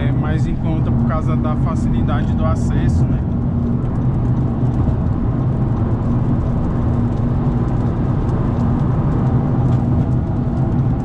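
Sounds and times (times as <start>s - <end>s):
road noise: 0.0s - 11.0s
vehicle engine droning: 0.0s - 11.0s.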